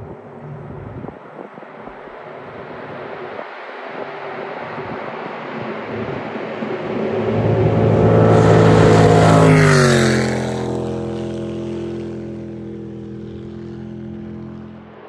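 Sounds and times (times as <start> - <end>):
jet boat engine passing: 1.7 - 15.0.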